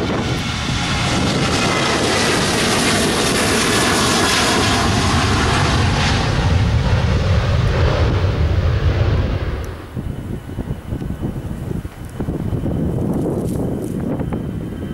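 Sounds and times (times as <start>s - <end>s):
jet engines roaring at takeoff: 0.0s - 14.9s.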